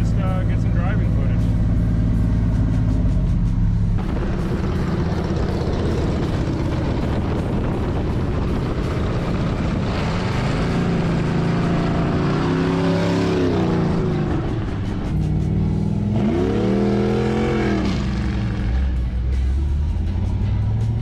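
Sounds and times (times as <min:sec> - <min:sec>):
car engines: 0:00.0 - 0:21.0
road and wind noise: 0:00.0 - 0:21.0.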